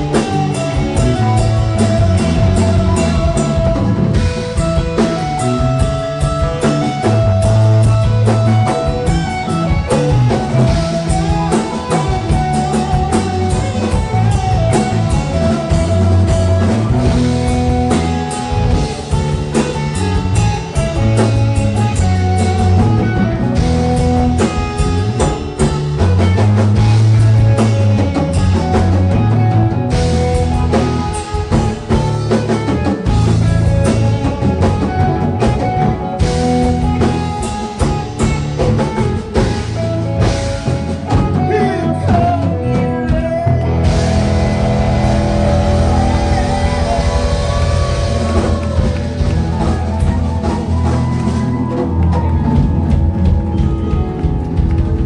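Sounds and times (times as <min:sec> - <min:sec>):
bass line: 0:00.0 - 0:55.0
drum kit: 0:00.0 - 0:55.0
held guitar notes: 0:00.0 - 0:55.0.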